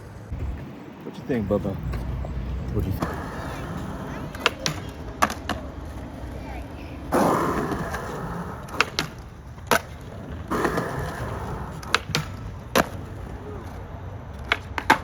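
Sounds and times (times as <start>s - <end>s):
skateboard clacking on ground: 0.0s - 15.0s
skateboard wheels rolling on concrete: 0.0s - 15.0s.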